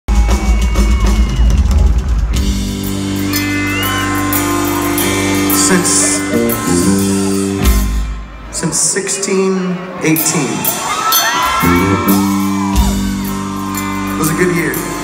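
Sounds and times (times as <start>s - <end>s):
drums: 0.0s - 8.7s, 10.2s - 15.0s
guitar and bass chords: 0.1s - 8.7s, 9.8s - 15.0s
live rock band: 0.1s - 15.0s.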